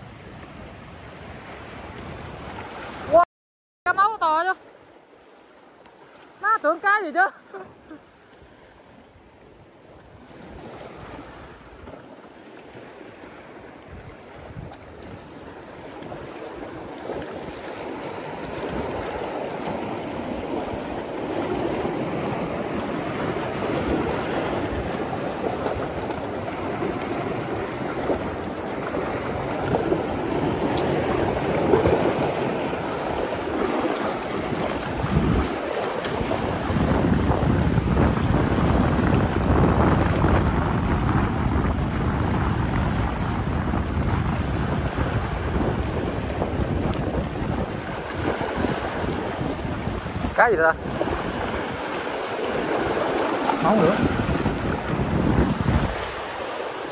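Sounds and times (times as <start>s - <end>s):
sea surf washing in: 0.0s - 3.2s, 3.9s - 56.9s
wind buffeting microphone: 8.5s - 56.9s.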